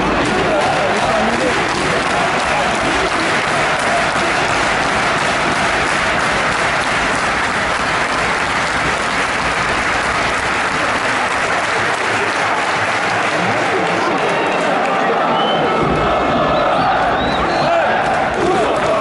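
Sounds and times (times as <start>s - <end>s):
crowd clapping: 0.0s - 19.0s
stadium crowd cheering: 0.0s - 19.0s.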